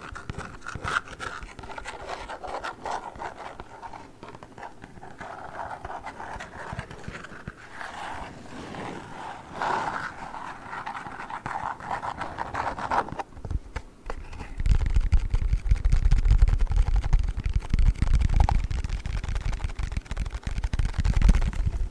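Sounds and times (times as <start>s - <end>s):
scratching on foam package: 0.0s - 13.3s, 14.1s - 21.9s.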